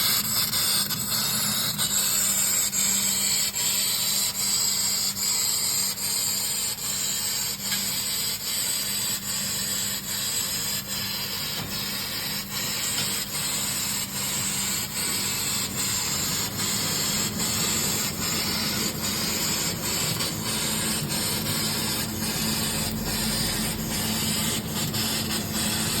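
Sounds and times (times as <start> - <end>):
laser cutting gas jet hiss: 0.0 - 26.0.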